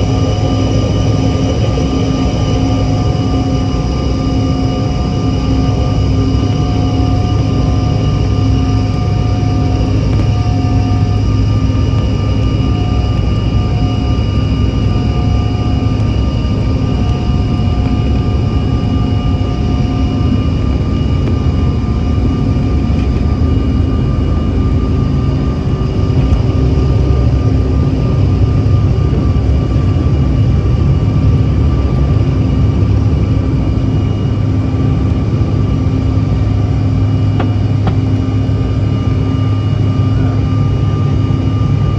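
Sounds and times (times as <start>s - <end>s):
jet engine rumble: 0.0s - 41.9s
jet engine whining tones: 0.0s - 41.9s.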